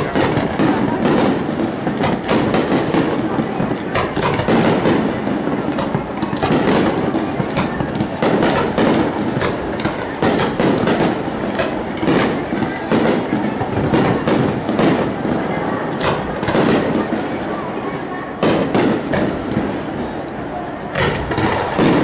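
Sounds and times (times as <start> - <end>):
fireworks cracks and bangs: 0.0 - 22.0.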